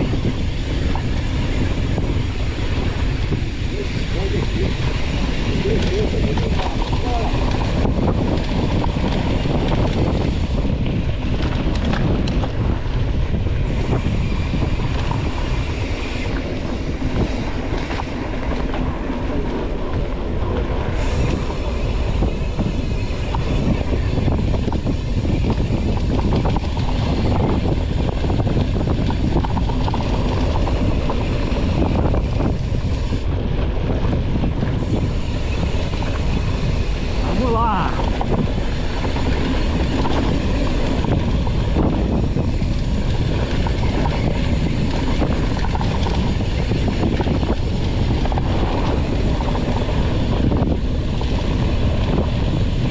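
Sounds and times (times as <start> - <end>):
bike tyres rumbling over dirt: 0.0 - 52.9.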